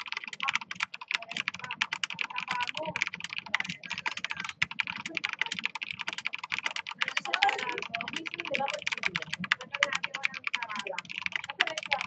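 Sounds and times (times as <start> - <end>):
mechanical keyboard fast typing: 0.0 - 12.0.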